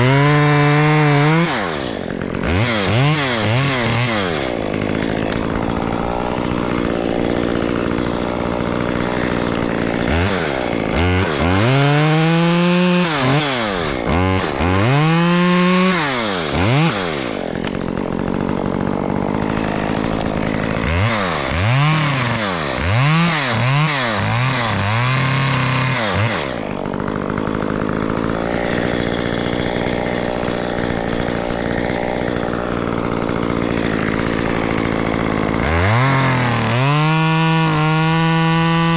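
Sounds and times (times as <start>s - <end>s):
chainsaw cutting wood: 0.0s - 38.9s
chainsaw revving: 0.0s - 38.9s.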